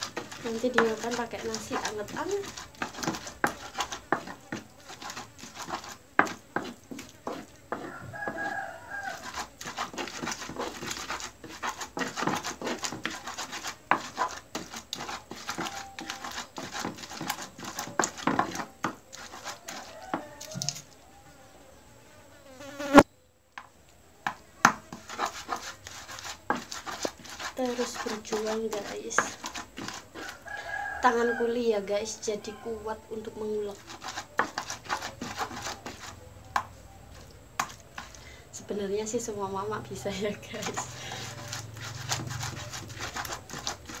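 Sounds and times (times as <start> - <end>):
pestle knocking and scraping in mortar: 0.0 - 20.6, 23.6 - 30.6, 33.3 - 38.2, 40.4 - 44.0.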